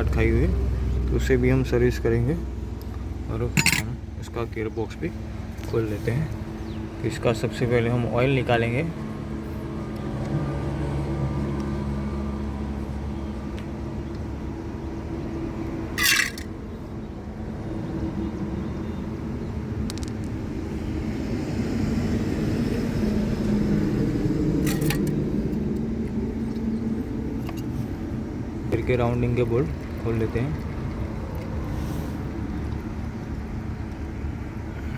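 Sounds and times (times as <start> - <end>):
vehicle engine droning: 0.0 - 34.9.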